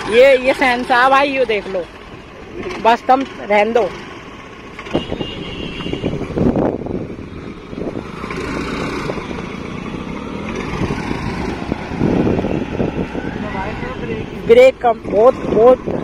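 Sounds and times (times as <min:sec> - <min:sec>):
small engine running unevenly: 0:00.0 - 0:16.0.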